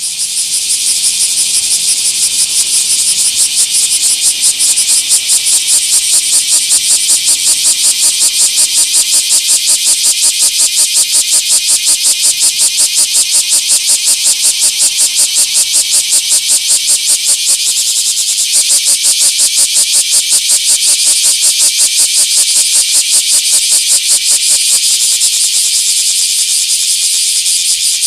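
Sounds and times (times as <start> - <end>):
cicada buzzing: 0.0 - 28.0.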